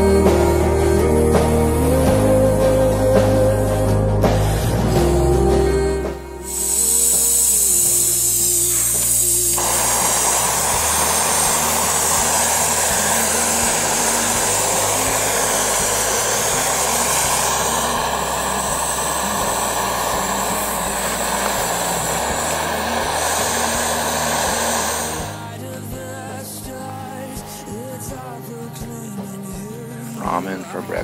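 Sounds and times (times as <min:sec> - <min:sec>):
gas stove roaring hiss: 0:00.0 - 0:27.3.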